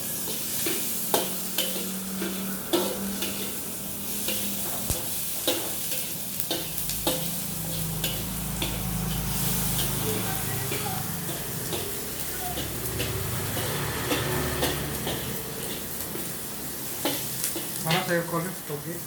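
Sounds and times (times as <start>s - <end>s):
spatula scraping a wok: 0.0s - 18.1s
rice sizzling in a wok: 0.0s - 19.0s.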